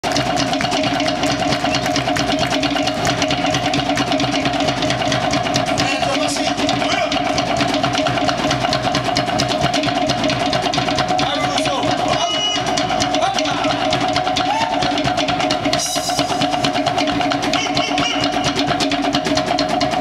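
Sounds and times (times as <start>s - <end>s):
fast drumming: 0.0s - 20.0s.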